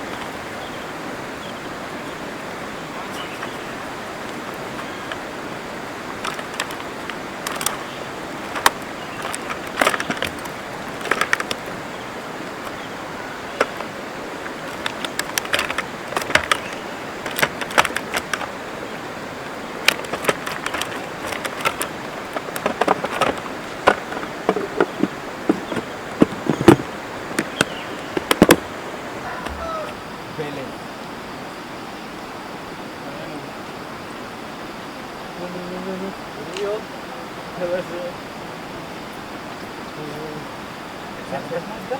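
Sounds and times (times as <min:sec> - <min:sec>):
river rushing: 0:00.0 - 0:35.5.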